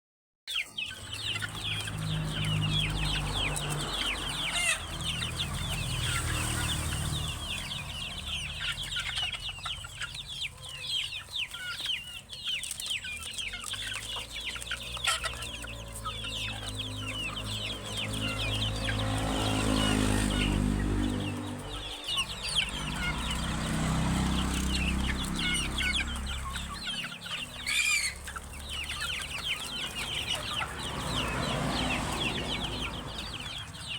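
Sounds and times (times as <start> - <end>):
chickens clucking and calling: 0.5 - 33.9.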